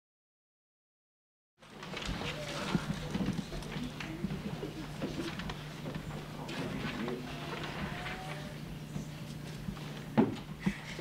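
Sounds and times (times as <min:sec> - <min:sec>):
low electrical hum: 0:01.6 - 0:11.0.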